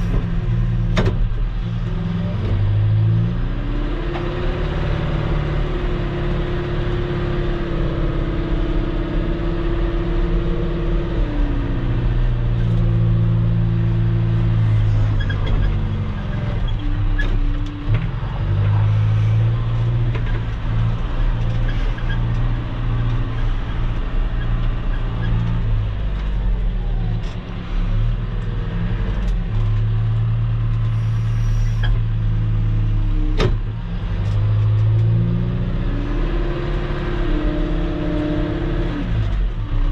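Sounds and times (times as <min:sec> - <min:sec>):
earth-moving machine engine: 0:04.2 - 0:39.9.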